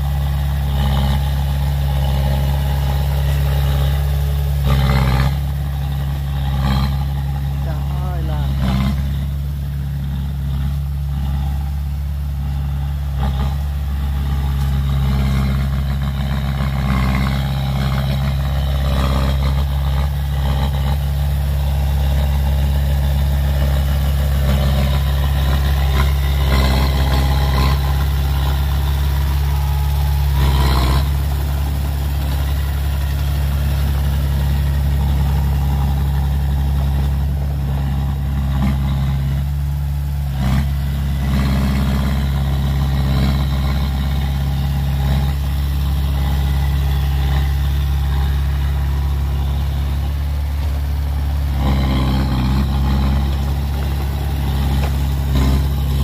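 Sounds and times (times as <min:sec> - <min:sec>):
bulldozer diesel engine running: 0:00.0 - 0:56.0
bulldozer pushing loose soil: 0:00.0 - 0:56.0.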